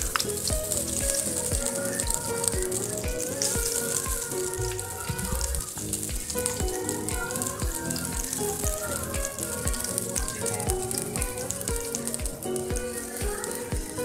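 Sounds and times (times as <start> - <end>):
background music with steady beat: 0.0 - 14.0
oil sizzling in a wok: 0.0 - 14.0.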